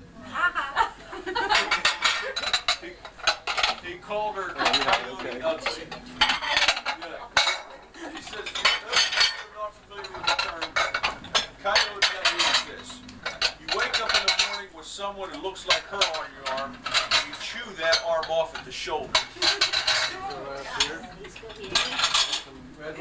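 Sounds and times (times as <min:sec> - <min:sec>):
voices: 0:00.2 - 0:23.0
dishes and silverware clattering: 0:01.3 - 0:22.6.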